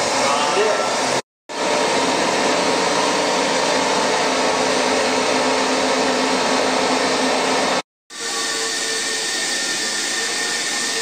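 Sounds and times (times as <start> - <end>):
vacuum pump running: 0.0 - 11.0.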